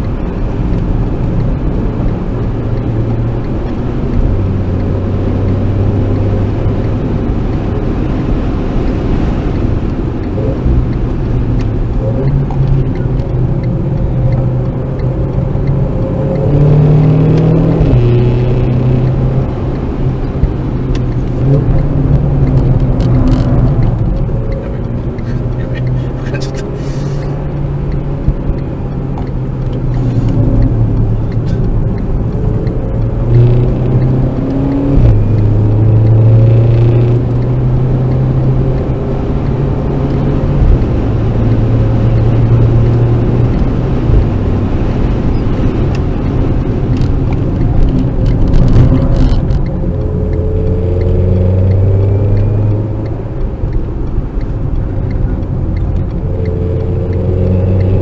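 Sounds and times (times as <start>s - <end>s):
car engine accelerating: 0.0s - 58.0s
road and tyre rumble: 0.0s - 58.0s.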